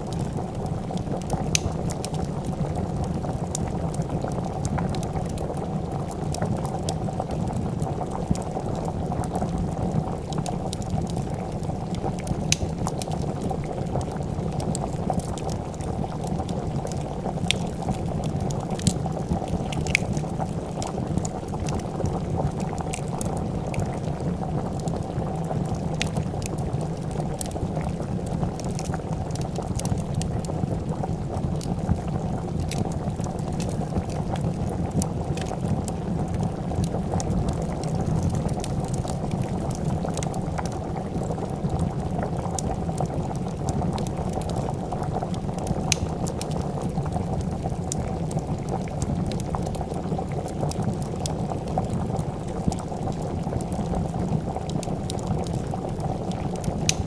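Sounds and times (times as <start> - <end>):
soup boiling and bubbling: 0.0 - 57.0
wood fire crackling: 0.0 - 57.0.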